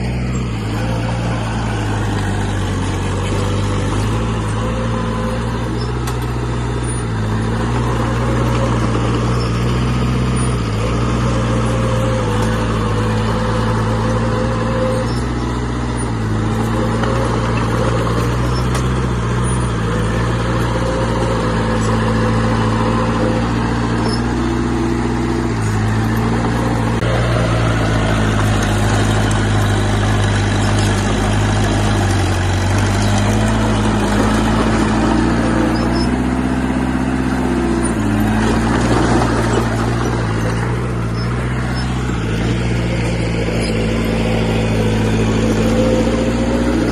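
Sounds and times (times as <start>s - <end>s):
heavy diesel machinery running: 0.0s - 46.9s.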